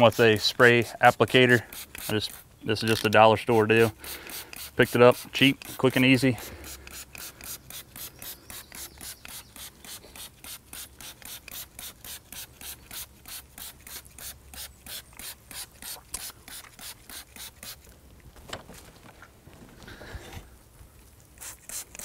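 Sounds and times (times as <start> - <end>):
spray bottle squirting: 0.0 - 17.8, 21.3 - 22.0.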